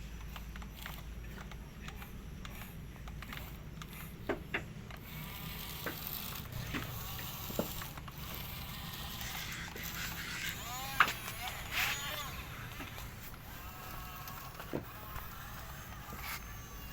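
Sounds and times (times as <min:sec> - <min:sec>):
sharp clicks and knocks: 0:00.1 - 0:16.6.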